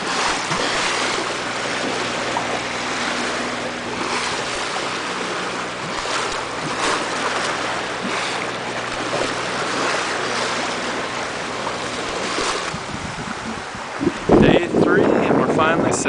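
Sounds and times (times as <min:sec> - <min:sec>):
water rushing and splashing at bow: 0:00.0 - 0:16.0.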